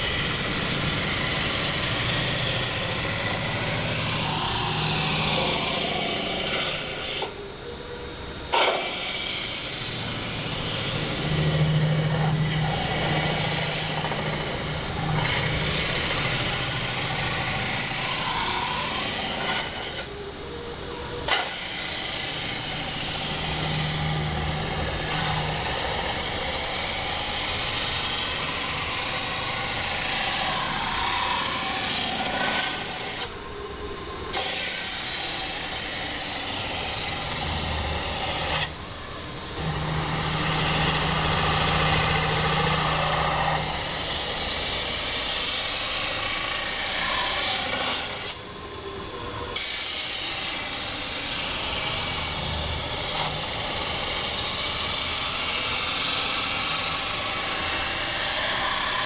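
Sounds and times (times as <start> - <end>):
metal-spinning machine hissing rasp: 0.0 - 7.6, 8.5 - 20.3, 21.1 - 38.8, 39.6 - 48.5, 49.6 - 59.0.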